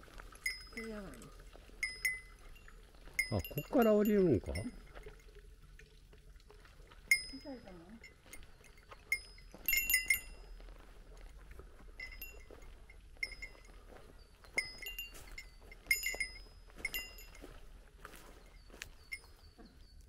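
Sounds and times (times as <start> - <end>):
small metal bell jingling: 0.0 - 4.9, 7.1 - 10.8, 11.9 - 20.0.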